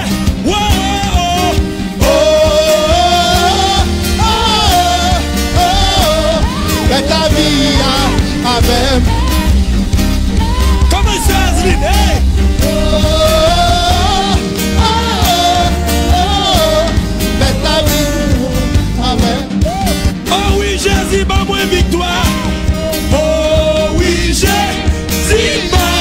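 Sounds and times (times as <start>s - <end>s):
drum kit: 0.0s - 26.0s
electric bass: 0.0s - 26.0s.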